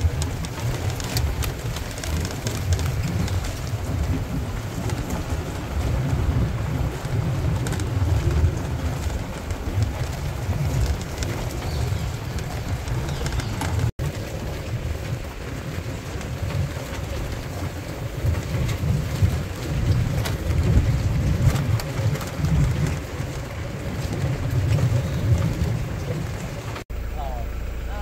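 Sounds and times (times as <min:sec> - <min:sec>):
wind noise: 0:00.0 - 0:26.8
vehicle engine rumble: 0:00.0 - 0:28.0.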